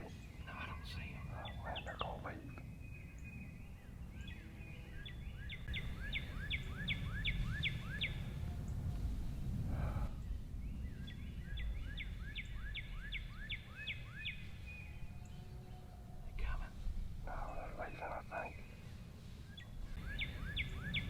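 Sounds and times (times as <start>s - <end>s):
steady low rumble: 0.0s - 4.2s, 5.6s - 15.2s, 16.1s - 21.0s
songbird singing slurred notes: 0.0s - 9.4s, 10.0s - 21.0s.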